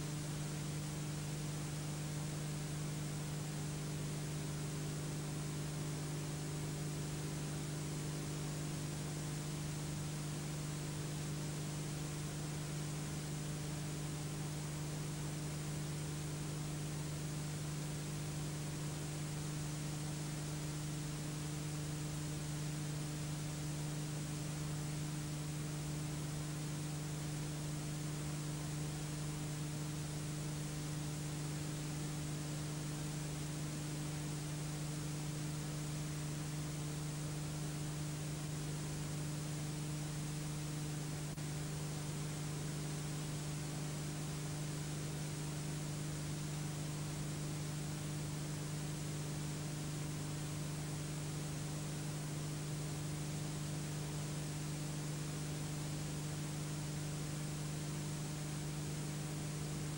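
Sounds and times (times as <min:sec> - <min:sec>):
electrical hum and hiss: 0:00.0 - 0:59.9.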